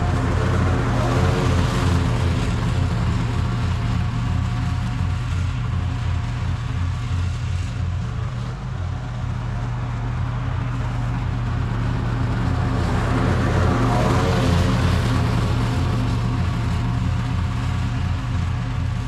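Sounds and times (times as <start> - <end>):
mower engine running: 0.0 - 19.0.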